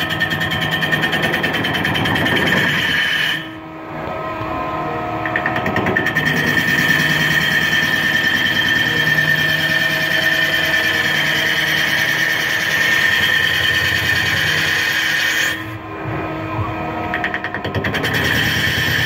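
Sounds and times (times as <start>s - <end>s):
lathe machine whine: 0.0s - 19.0s.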